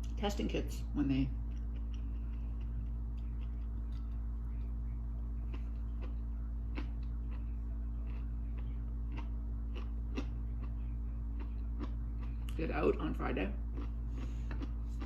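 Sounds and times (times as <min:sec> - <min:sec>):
low electrical hum: 0:00.0 - 0:15.0
person chewing food: 0:01.4 - 0:12.6, 0:13.7 - 0:15.0.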